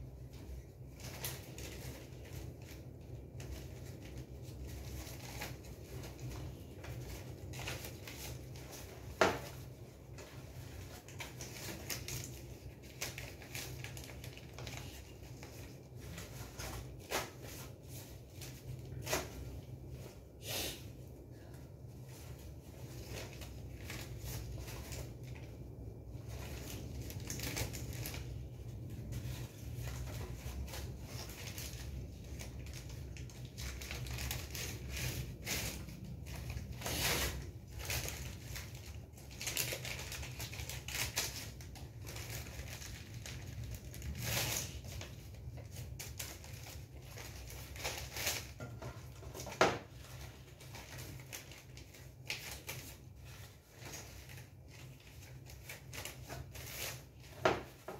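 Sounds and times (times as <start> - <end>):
tissues rustling and crinkling: 0.0 - 57.9.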